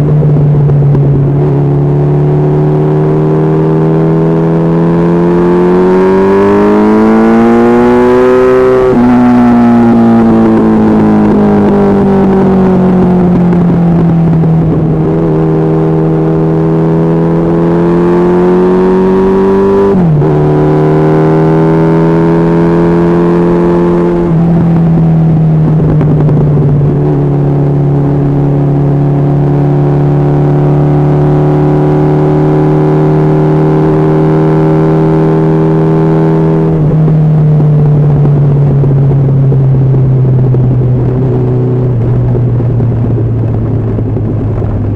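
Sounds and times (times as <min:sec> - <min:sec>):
motorcycle engine at highway speed: 0:00.0 - 0:44.9.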